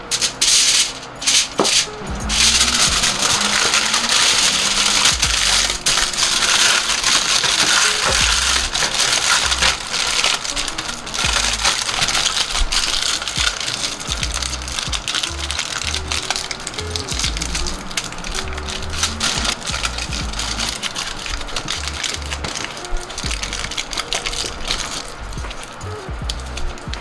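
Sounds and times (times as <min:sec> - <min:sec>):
aluminium foil crinkling: 0:00.0 - 0:27.0
light background music: 0:00.0 - 0:27.0.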